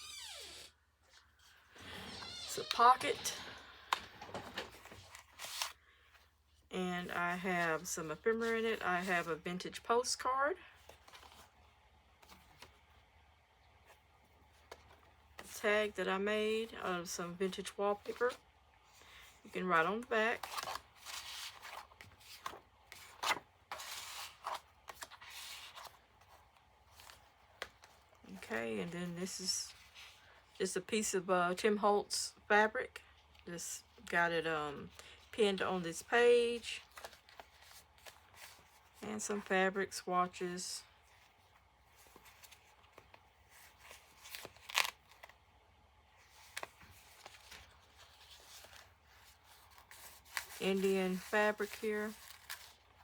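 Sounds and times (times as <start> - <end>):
paper and card rustling: 1.0 - 6.4, 7.0 - 12.9, 16.5 - 30.8, 33.3 - 45.5, 46.1 - 53.0.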